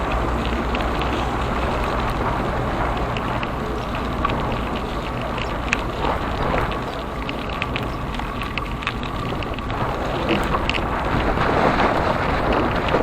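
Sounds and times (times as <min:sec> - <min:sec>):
bicycle rolling: 0:00.0 - 0:13.0
small clicks and rattles: 0:00.0 - 0:13.0
wind rumble on microphone: 0:00.0 - 0:13.0.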